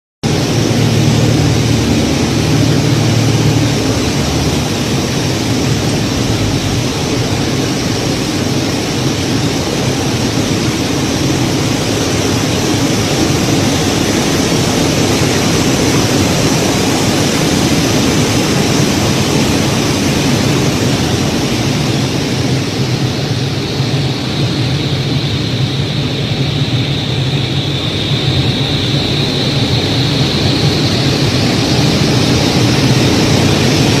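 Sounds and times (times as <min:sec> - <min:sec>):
airplane engine in flight: 0:00.2 - 0:34.0
high engine whine: 0:00.2 - 0:34.0.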